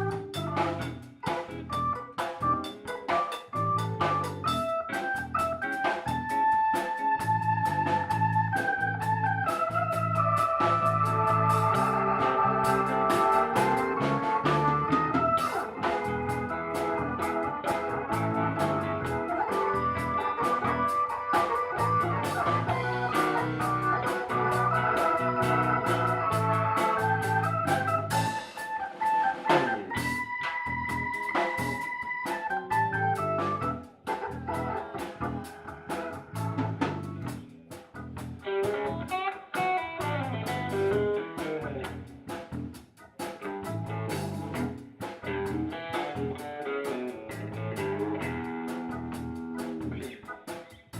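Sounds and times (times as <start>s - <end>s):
bass line: 0.0s - 46.4s, 47.2s - 50.2s
organ holding chords: 0.0s - 50.9s
steady drums: 0.0s - 50.9s.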